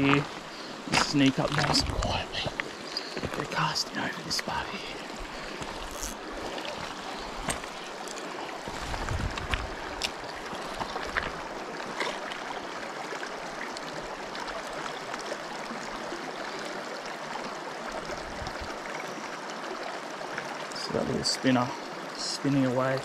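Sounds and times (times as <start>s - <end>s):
creek water running over rocks: 0.0s - 23.0s.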